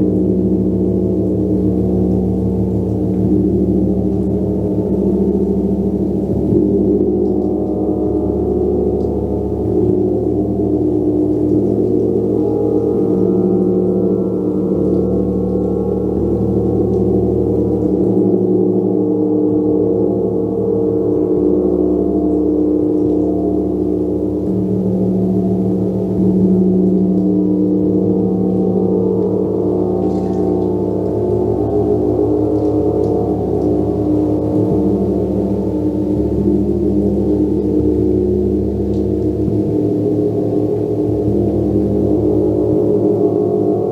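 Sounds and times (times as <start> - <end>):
gong ringing: 0.0 - 43.9.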